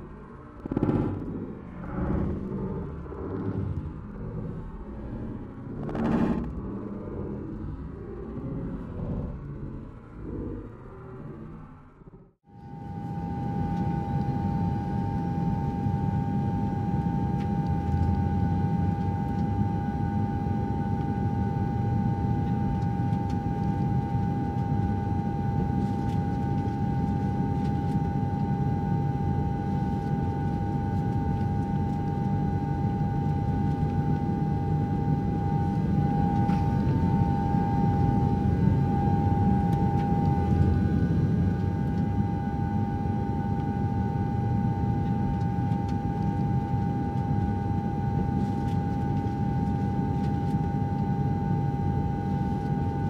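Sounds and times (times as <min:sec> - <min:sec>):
high-pitched two-tone whine: 0:00.0 - 0:11.9, 0:12.5 - 0:53.0.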